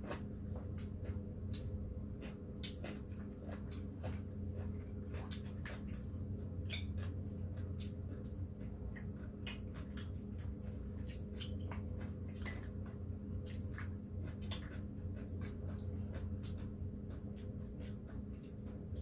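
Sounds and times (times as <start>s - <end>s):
chewing smacks: 0.0s - 19.0s
low steady hum: 0.0s - 19.0s.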